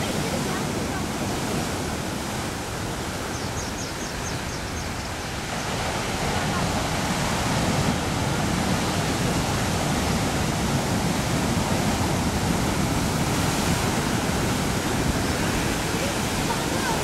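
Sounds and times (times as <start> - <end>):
ocean surf breaking on rocks: 0.0 - 17.0.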